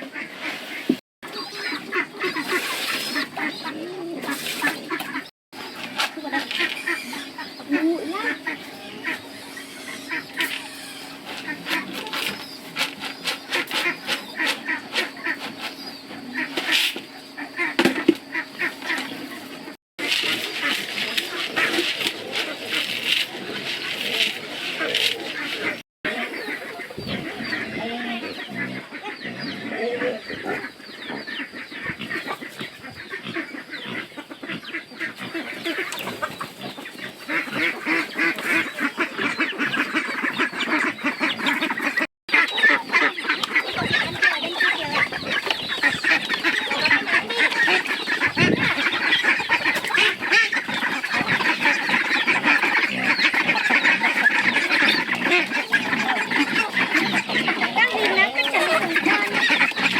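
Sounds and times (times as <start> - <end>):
poultry honking and clucking: 0.0 - 59.9.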